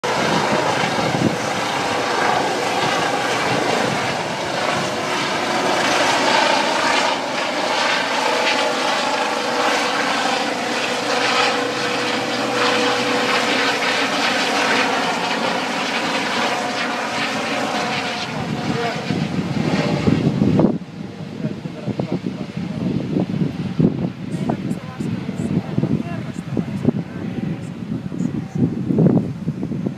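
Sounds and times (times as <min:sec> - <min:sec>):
helicopter lifting off: 0:00.0 - 0:29.9.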